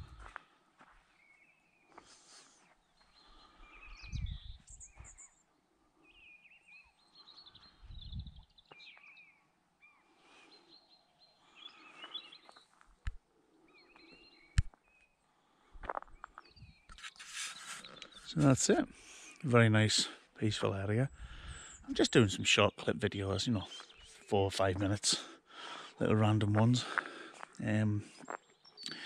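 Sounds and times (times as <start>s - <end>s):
small birds singing and chirping: 1.2s - 12.8s, 13.6s - 29.0s.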